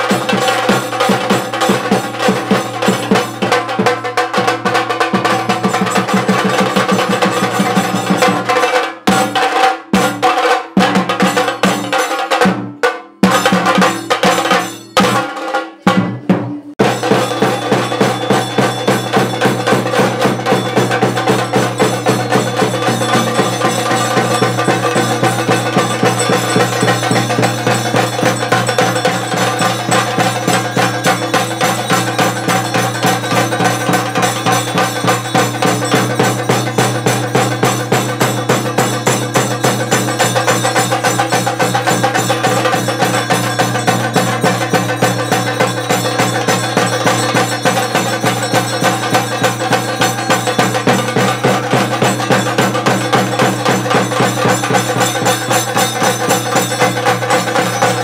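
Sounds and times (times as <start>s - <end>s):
barrel drums played with sticks: 0.0s - 58.0s.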